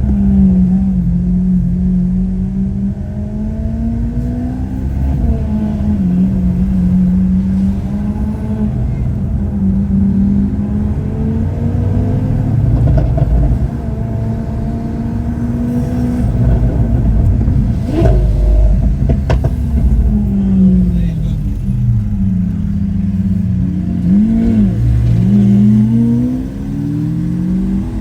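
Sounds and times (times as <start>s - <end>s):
car engine revving while driving: 0.0s - 28.0s.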